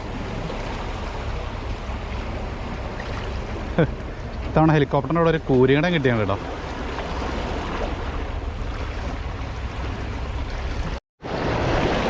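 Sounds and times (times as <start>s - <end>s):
surf washing: 0.0s - 12.0s.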